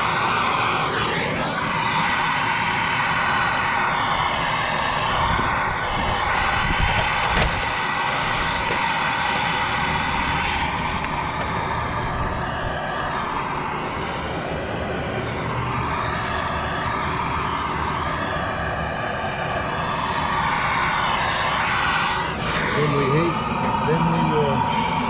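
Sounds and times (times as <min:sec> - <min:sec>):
gas torch hissing: 0:00.0 - 0:25.0.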